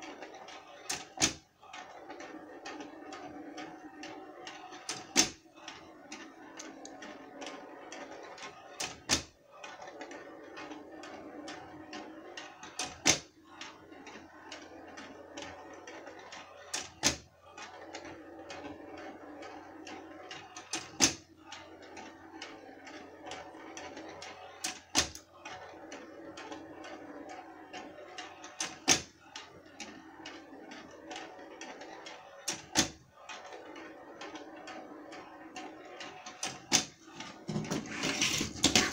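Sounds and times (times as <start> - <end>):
ball rolling on track: 0.0 - 38.9.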